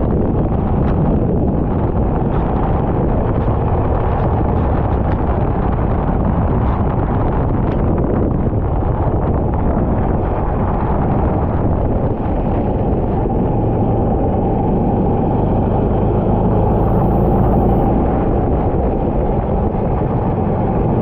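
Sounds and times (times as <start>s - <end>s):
wind rumble on microphone: 0.0s - 21.0s
go-kart engine running: 0.1s - 21.0s.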